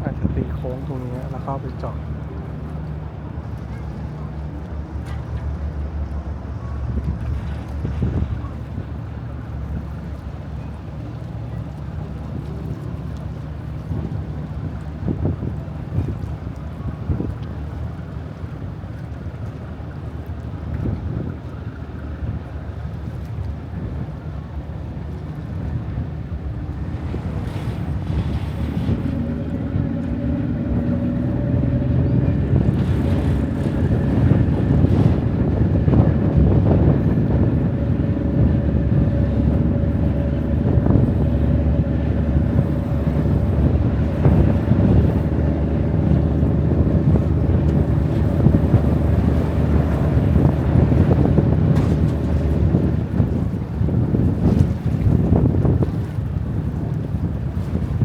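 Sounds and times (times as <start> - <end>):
boat engine droning: 0.0 - 58.0
wind buffeting microphone: 0.0 - 58.0.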